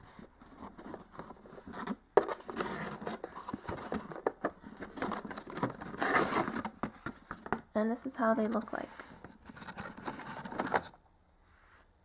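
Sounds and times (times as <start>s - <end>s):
packaging rustling and scraping: 0.0s - 7.6s, 8.2s - 11.0s.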